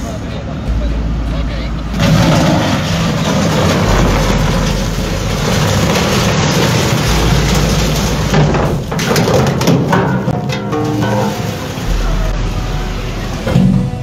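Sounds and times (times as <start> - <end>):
metal frame crunching: 0.7 - 14.0
ship hull grinding on concrete: 1.8 - 14.0.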